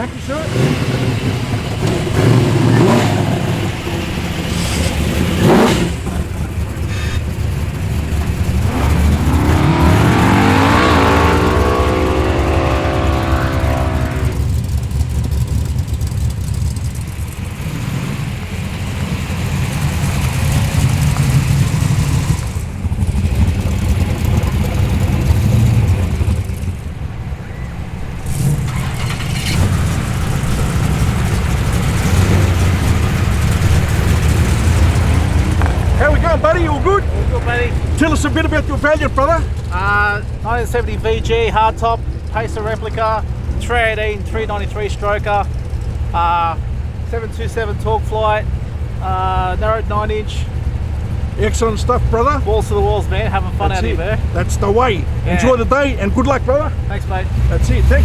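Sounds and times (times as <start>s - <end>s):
car engine revving: 0.0s - 58.0s
car engines idling: 0.0s - 58.0s.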